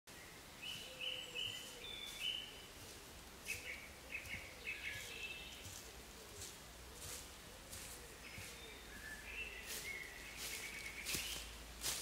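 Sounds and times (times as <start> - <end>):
faint background hiss: 0.1 - 12.0
songbirds singing: 0.1 - 12.0.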